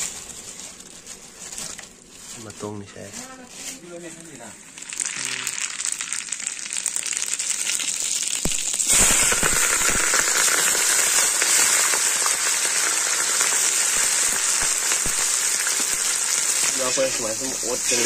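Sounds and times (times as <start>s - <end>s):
hot oil crackling and sizzling: 0.0s - 18.0s.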